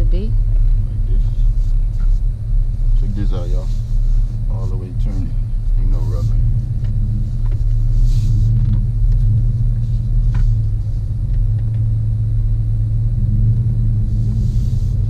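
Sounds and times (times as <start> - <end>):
road rumble: 0.0 - 15.0
truck engine rumble: 0.0 - 15.0.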